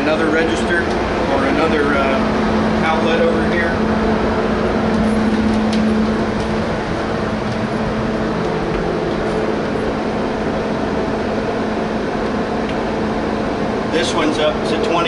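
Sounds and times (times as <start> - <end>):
fan blowing air with hum: 0.0 - 15.0.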